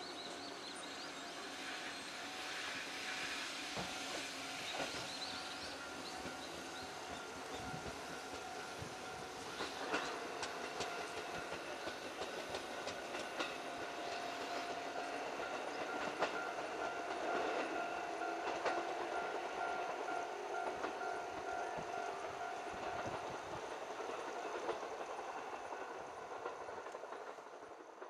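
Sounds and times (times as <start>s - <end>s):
train motor hum: 0.7s - 27.4s
train wheels clicking over rail joints: 2.5s - 28.0s.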